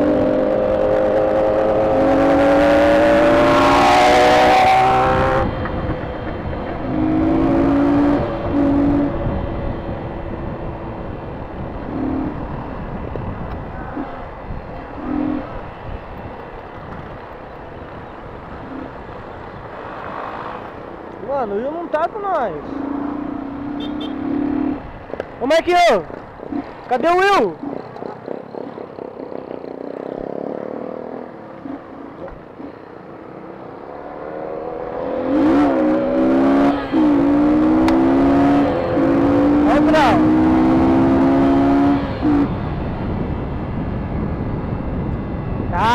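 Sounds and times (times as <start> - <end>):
motorcycle riding on road: 0.0 - 45.9.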